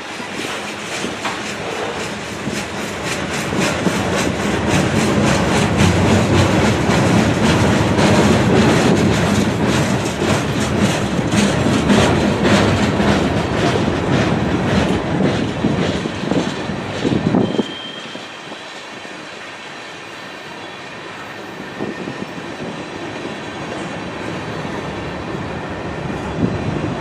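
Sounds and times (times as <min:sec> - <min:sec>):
freight train wheels clacking: 0:00.0 - 0:27.0.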